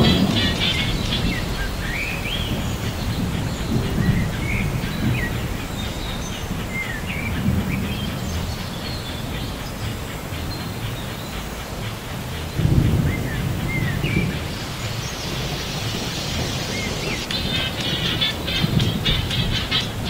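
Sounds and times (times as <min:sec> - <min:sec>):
birds chirping: 0:00.0 - 0:20.0
light rain: 0:00.0 - 0:20.0
steady low rumble: 0:00.0 - 0:20.0.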